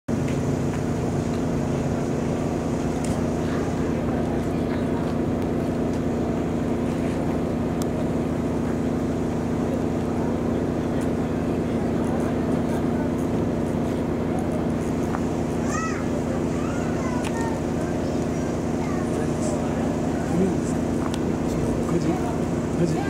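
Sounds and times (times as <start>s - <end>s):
truck engine idling: 0.1s - 23.0s.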